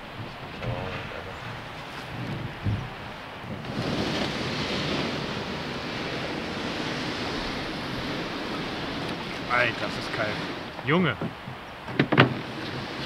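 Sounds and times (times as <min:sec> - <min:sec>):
boat hull scraping over sand: 0:00.2 - 0:11.3, 0:11.9 - 0:13.0.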